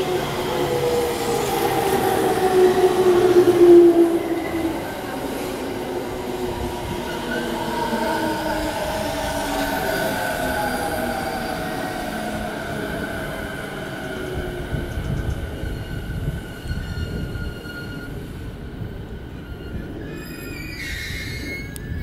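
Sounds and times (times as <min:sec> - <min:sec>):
train high whine: 0:00.0 - 0:22.0.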